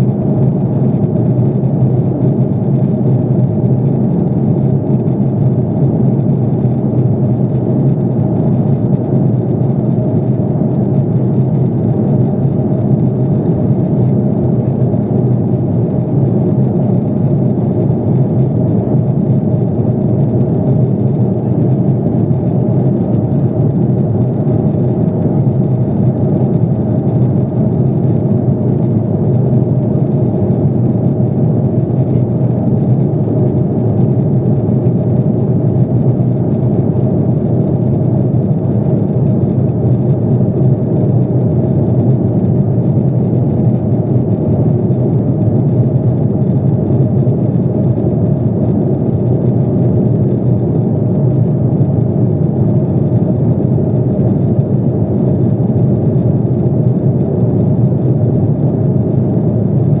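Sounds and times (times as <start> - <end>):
airliner cabin engine hum: 0.0 - 60.0.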